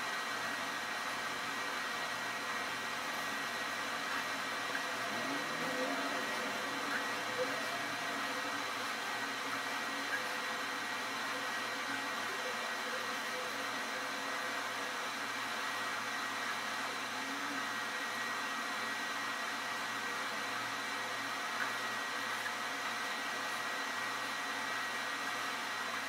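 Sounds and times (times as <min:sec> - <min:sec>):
faint constant hum: 0:00.0 - 0:26.0
steady background hiss: 0:00.0 - 0:26.0.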